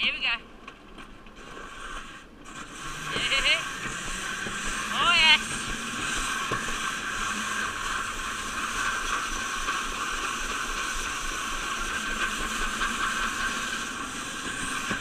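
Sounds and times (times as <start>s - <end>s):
sled rushing down metal chute: 1.4s - 15.0s.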